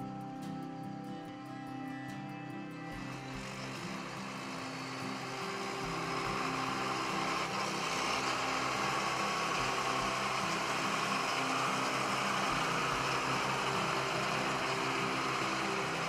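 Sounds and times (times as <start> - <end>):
tractor diesel engine running: 2.8 - 16.0.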